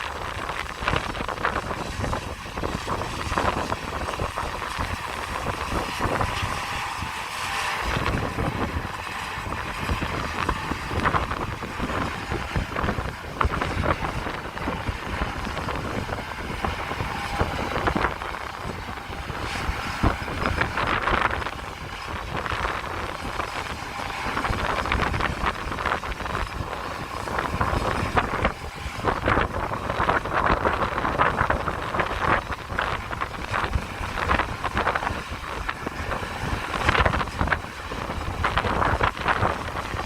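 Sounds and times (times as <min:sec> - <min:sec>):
combine harvesters droning: 0:00.0 - 0:40.0
wind gusting on microphone: 0:00.0 - 0:40.0.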